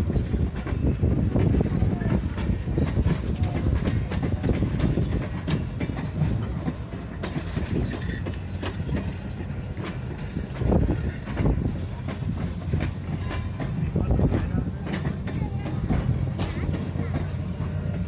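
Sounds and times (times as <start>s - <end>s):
low train rumble: 0.0s - 18.0s
train wheels clacking over rail joints: 0.0s - 18.0s.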